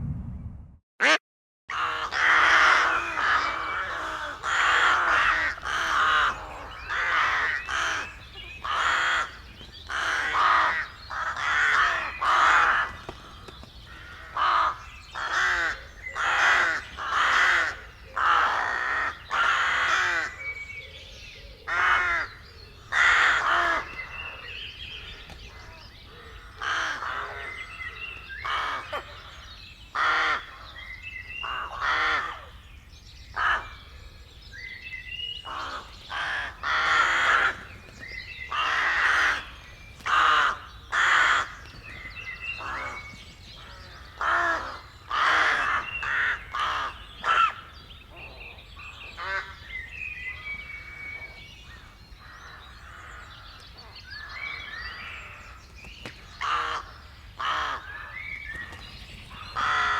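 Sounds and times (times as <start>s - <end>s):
birds giving harsh calls: 1.0s - 20.5s, 21.5s - 32.6s, 33.3s - 33.9s, 35.1s - 59.9s.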